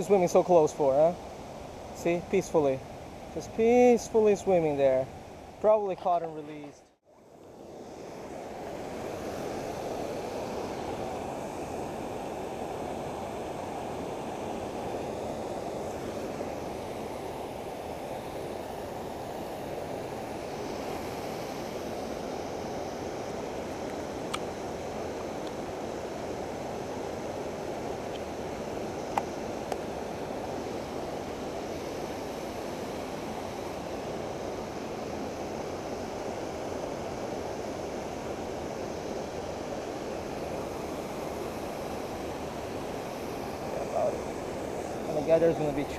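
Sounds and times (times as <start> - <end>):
creek water rushing over dam: 0.0 - 6.7, 7.4 - 45.9.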